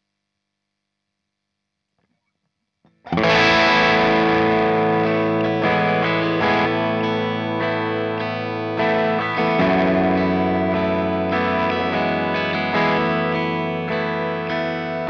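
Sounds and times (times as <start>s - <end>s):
overdriven electric guitar chords: 2.9s - 15.0s.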